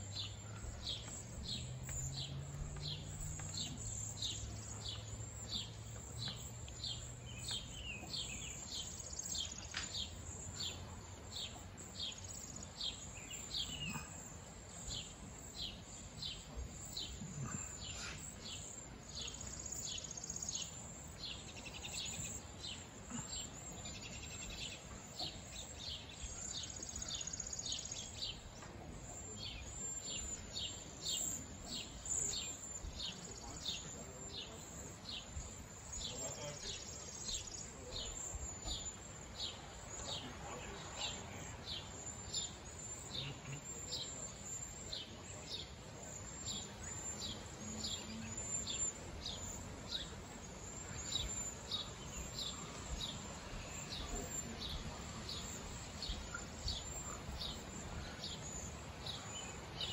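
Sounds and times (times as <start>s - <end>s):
birds whistling calls: 0.1s - 59.9s.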